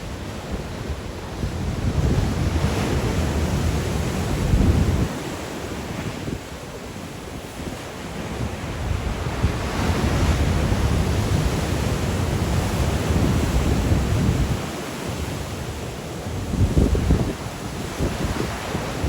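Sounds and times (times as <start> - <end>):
wind buffeting microphone: 0.0 - 6.6, 7.2 - 19.0
sea waves breaking on shore: 0.0 - 19.0.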